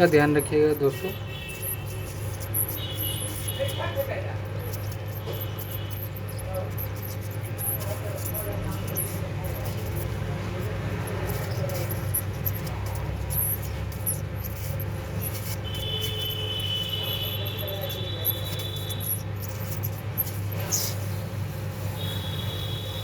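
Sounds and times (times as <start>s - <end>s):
hot-air station hum: 0.0s - 23.0s.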